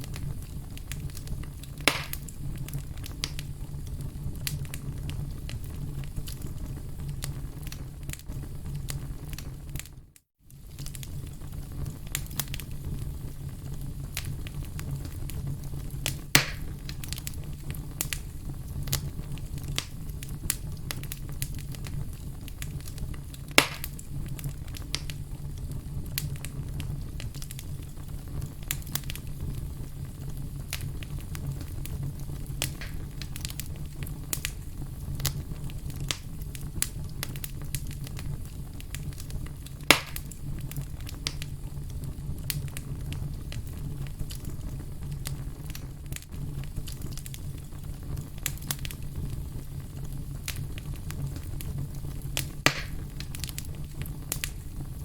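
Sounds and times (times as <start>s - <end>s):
sharp fire pops: 0.0s - 9.9s, 10.5s - 55.0s
fire crackling in fireplace: 0.0s - 55.0s.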